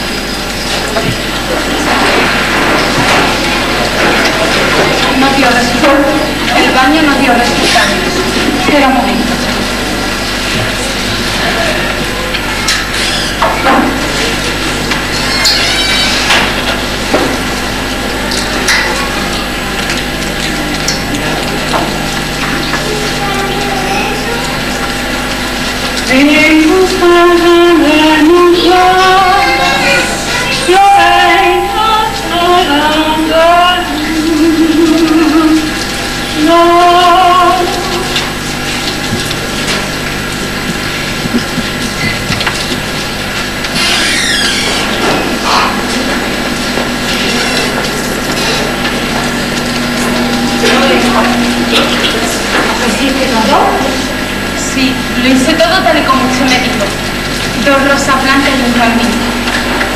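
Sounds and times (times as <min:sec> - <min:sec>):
recording hum and hiss: 0:00.0 - 0:59.9.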